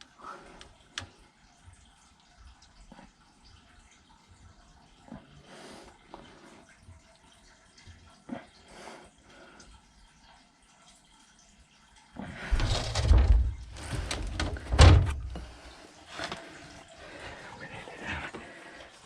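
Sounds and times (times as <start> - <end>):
water trickling and dripping: 0.0 - 19.0.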